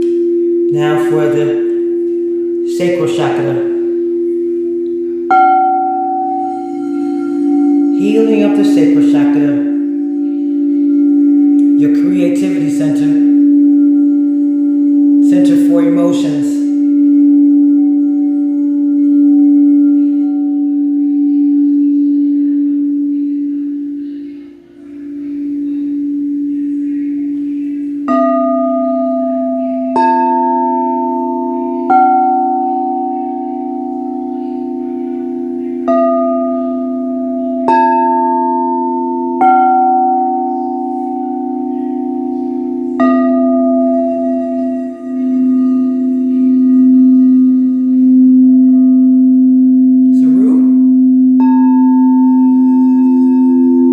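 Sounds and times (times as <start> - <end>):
singing bowl low drone: 0.0 - 53.9
singing bowls struck: 0.0 - 53.9.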